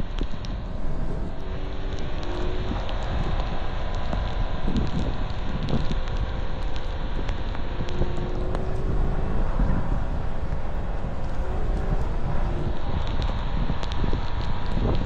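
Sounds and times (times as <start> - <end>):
car engine and road rumble: 0.0 - 15.0
faint ticks: 0.0 - 15.0
wind buffeting microphone: 0.0 - 15.0.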